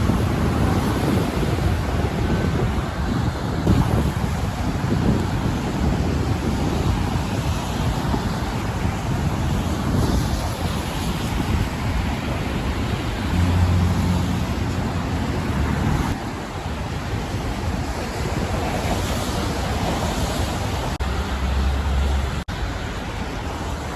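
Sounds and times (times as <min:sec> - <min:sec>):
road traffic rumble: 0:00.0 - 0:23.9
wind buffeting microphone: 0:00.0 - 0:23.9.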